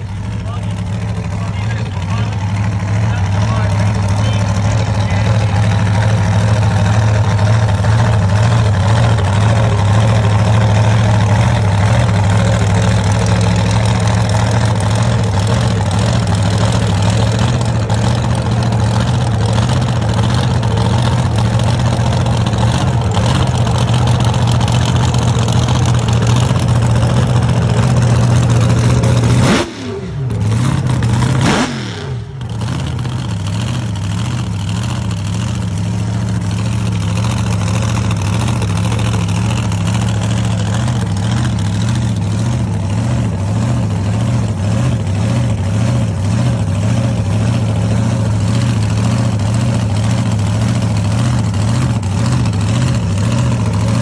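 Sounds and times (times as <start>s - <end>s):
loud racing engine idling: 0.0s - 54.0s.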